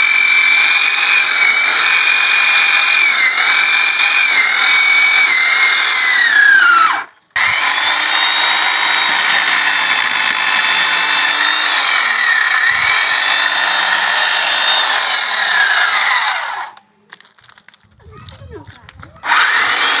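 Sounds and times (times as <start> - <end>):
electric chainsaw cutting log: 0.0 - 16.8, 19.2 - 20.0.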